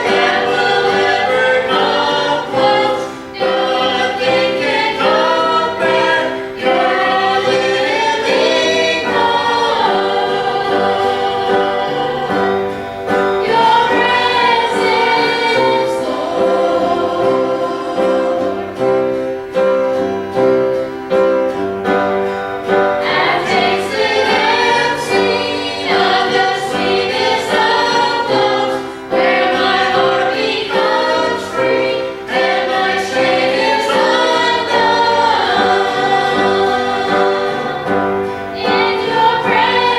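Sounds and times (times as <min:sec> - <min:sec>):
gospel singers singing: 0:00.0 - 0:39.9
piano accompaniment: 0:00.0 - 0:39.9.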